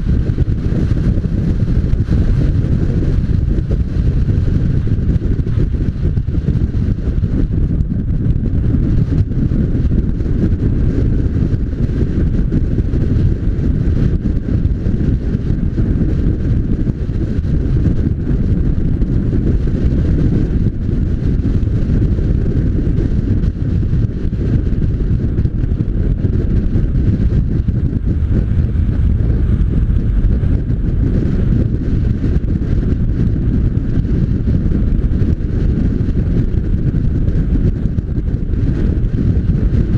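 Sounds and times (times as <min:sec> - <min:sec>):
motorcycle running: 0:00.0 - 0:39.9
wind rushing over microphone: 0:00.0 - 0:39.9.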